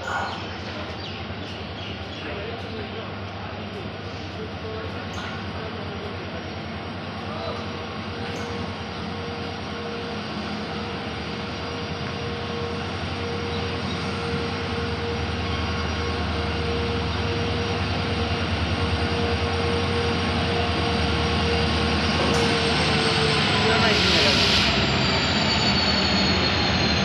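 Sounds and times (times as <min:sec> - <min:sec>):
diesel locomotive engine with whine: 0:00.0 - 0:27.0.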